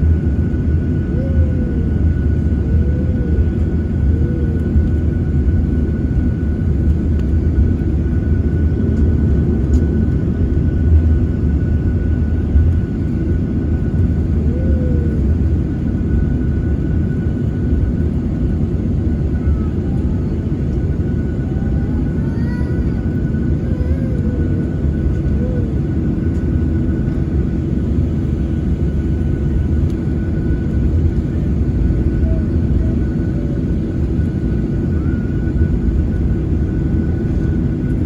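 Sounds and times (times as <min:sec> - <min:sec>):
aircraft cabin rumble: 0:00.0 - 0:38.0.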